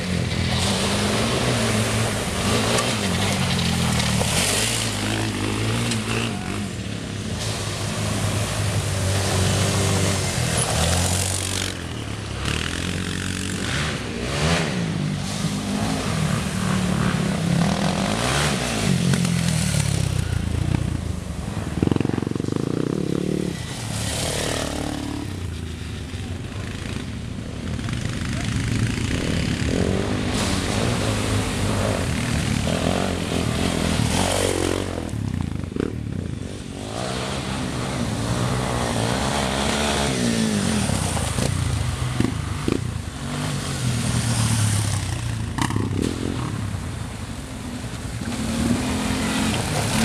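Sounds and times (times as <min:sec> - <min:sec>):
quad bike engine revving: 0:00.0 - 0:47.0, 0:48.2 - 0:50.0.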